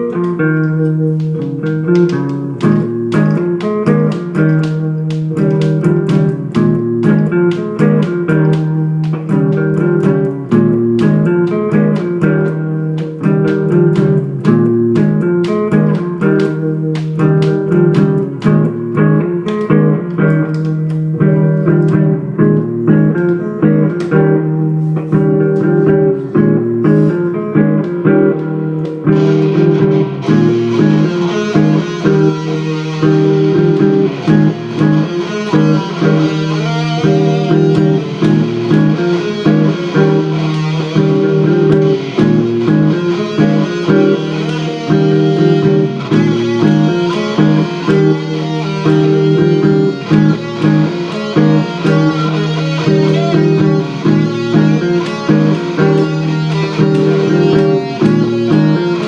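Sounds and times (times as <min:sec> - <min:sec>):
electric guitar playing: 0:00.0 - 0:59.0
looped rhythm part: 0:00.0 - 0:59.0.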